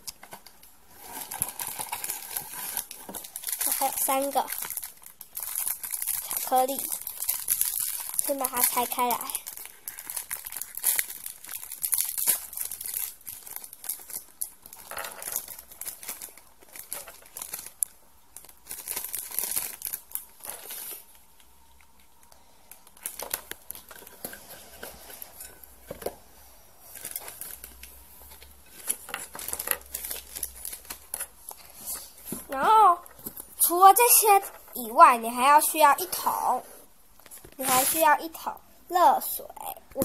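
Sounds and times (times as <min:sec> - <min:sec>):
plastic wrappers crinkling and tearing: 0:00.0 - 0:26.2, 0:26.8 - 0:36.5, 0:37.1 - 0:40.0.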